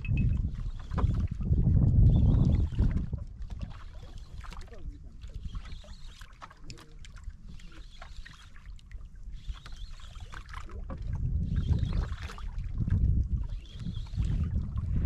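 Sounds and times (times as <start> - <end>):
wind on microphone: 0.0 - 6.8, 7.4 - 15.0
water lapping against boat hull: 0.0 - 15.0
water splashes: 0.0 - 15.0.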